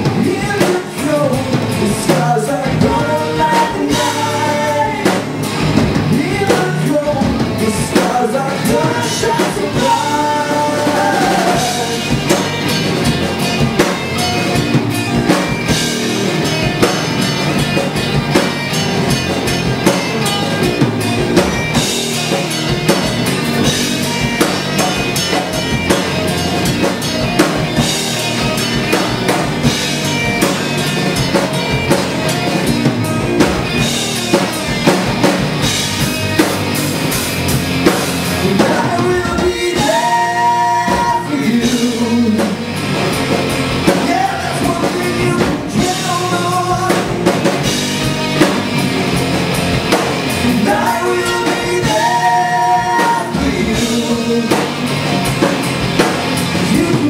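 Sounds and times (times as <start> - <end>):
bass guitar: 0.0 - 57.0
distorted electric guitars: 0.0 - 57.0
drum kit beat: 0.0 - 57.0.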